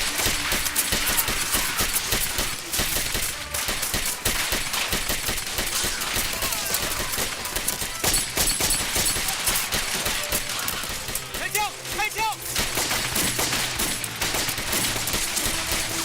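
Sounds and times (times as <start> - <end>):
rapid gunfire: 0.0 - 16.0.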